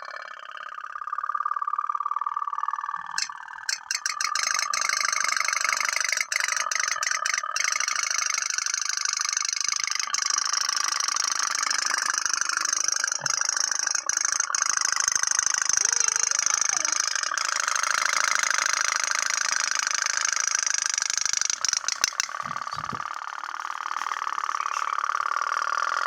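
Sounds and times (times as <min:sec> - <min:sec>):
toy boat engine puttering: 0:02.8 - 0:26.0
sharp clicks: 0:03.2 - 0:26.0.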